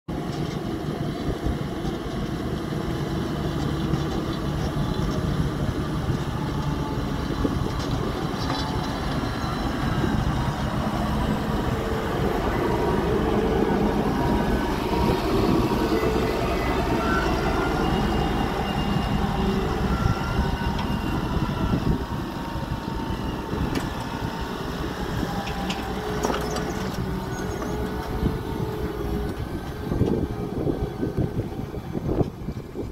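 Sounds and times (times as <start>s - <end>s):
tractor diesel engine under load: 0.1s - 32.9s.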